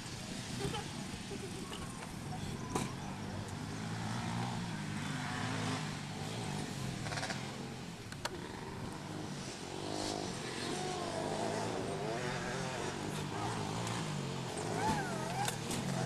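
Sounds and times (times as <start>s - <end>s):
racing engines revving: 0.0s - 16.0s.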